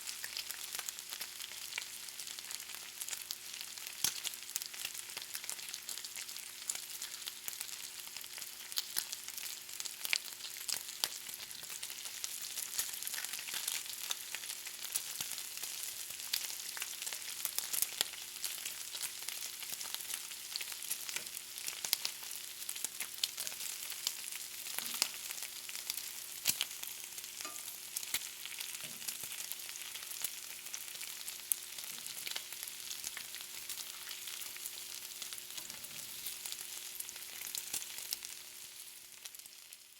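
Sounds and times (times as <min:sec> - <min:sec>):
bacon sizzling: 0:00.0 - 0:39.9.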